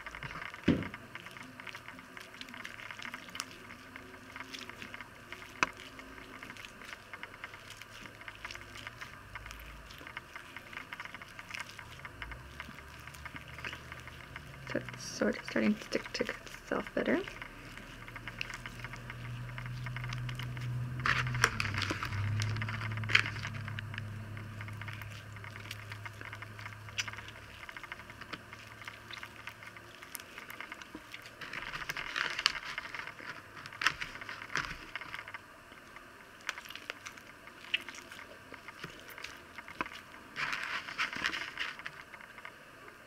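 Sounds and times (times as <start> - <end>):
low background hum: 0.0 - 43.0
slime squelching and crackling: 0.0 - 43.0.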